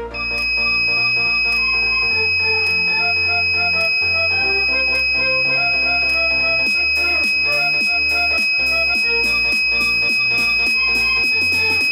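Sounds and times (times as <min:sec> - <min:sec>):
background music with a beat: 0:00.0 - 0:11.9
high-pitched buzzer tone: 0:00.0 - 0:11.9.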